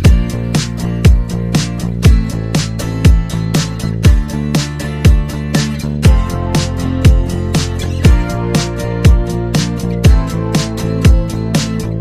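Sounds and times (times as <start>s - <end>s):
funky music with guitar and beat: 0.0s - 12.0s.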